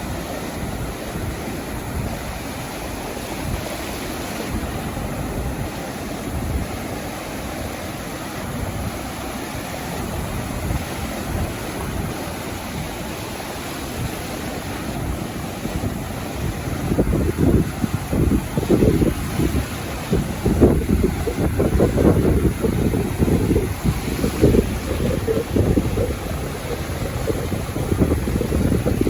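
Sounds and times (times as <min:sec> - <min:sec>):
sea surf washing onto beach: 0:00.0 - 0:29.0
wind buffeting microphone: 0:00.0 - 0:29.0.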